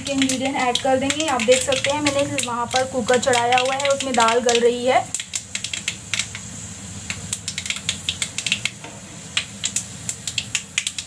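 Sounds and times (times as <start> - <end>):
oil sizzling: 0.0 - 11.0
seeds popping in hot oil: 0.0 - 11.0.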